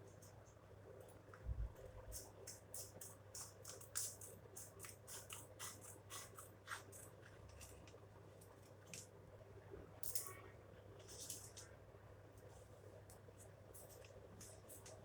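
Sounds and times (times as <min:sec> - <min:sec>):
small ticks and rustles of handling: 0:02.0 - 0:09.3, 0:10.0 - 0:15.0.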